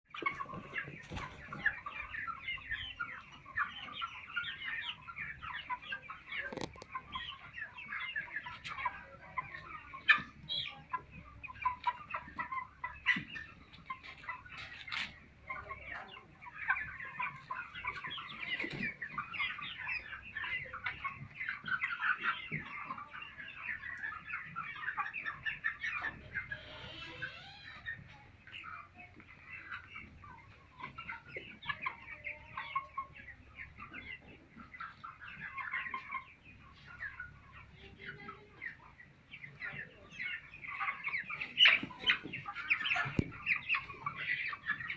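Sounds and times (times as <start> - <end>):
chickens clucking and calling: 0.1 - 44.9.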